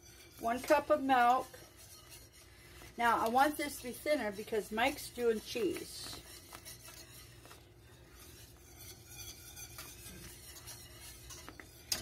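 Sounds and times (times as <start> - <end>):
whisk scraping metal pan: 0.0 - 12.0.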